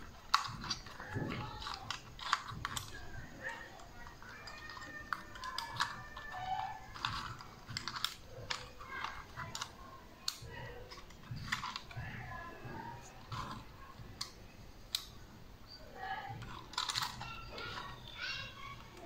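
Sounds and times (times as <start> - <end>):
plastic clicks and rattling: 0.0 - 19.0.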